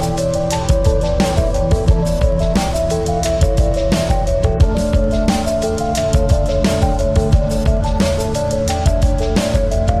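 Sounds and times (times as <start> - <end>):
electronic background music: 0.0 - 10.0.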